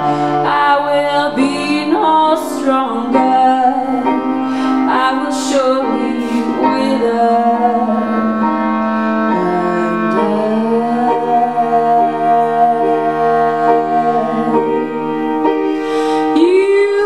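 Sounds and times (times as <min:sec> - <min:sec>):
woman singing: 0:00.0 - 0:15.2, 0:15.8 - 0:17.0
piano accompaniment: 0:00.0 - 0:17.0.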